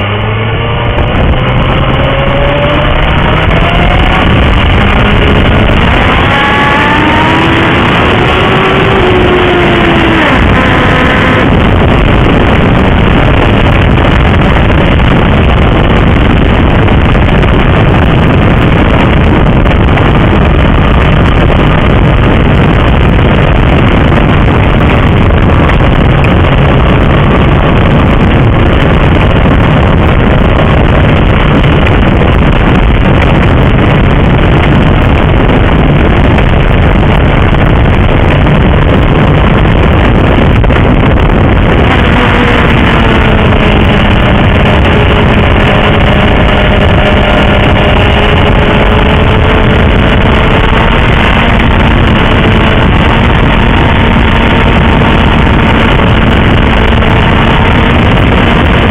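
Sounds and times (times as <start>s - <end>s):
motorcycle engine: 0.0s - 58.9s
wind buffeting microphone: 0.0s - 58.9s.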